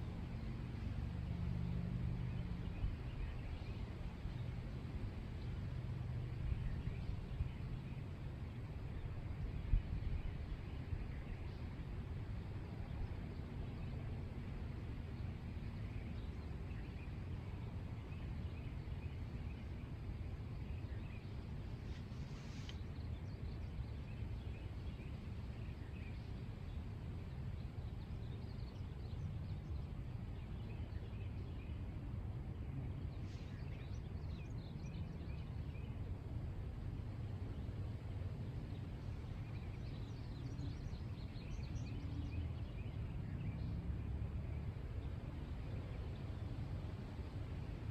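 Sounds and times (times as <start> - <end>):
low steady rumble: 0.0 - 47.9.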